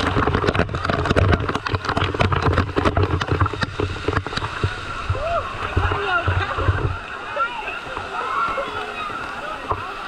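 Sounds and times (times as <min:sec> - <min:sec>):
waterfall crashing into pool: 0:00.0 - 0:10.0.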